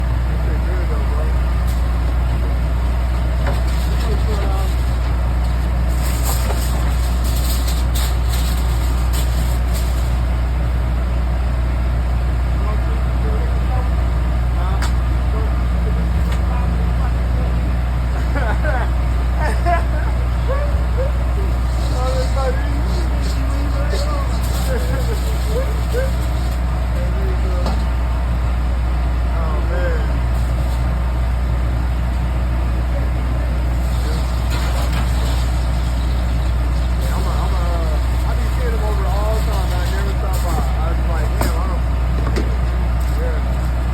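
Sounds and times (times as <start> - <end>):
engine idling: 0.0 - 43.9
low machine hum: 0.0 - 43.9.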